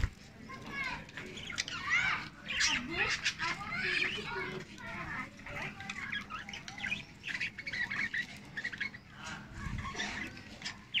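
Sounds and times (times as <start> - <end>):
budgerigars chattering: 1.3 - 4.7, 5.4 - 11.0.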